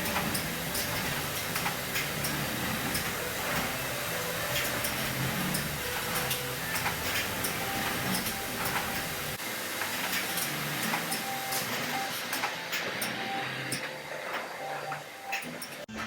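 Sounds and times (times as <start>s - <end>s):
canning machine noise and hiss: 0.0s - 16.0s.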